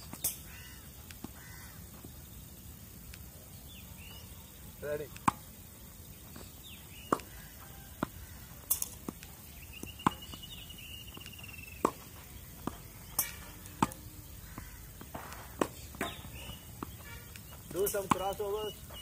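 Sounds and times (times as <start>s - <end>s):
tennis balls bouncing on clay: 0.0s - 2.2s, 4.0s - 19.0s
tennis balls struck by rackets: 0.0s - 2.2s, 4.0s - 19.0s.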